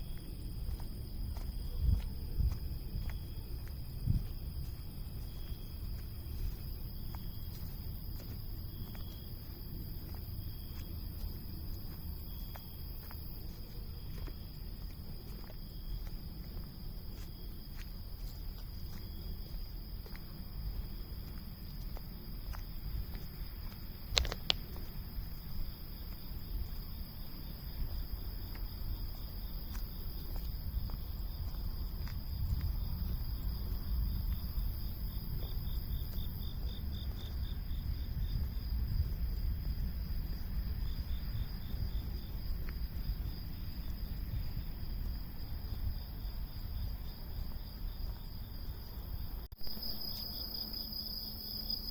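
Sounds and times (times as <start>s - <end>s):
cicadas buzzing: 0.0s - 51.9s
pulsing cicada call: 0.0s - 51.9s.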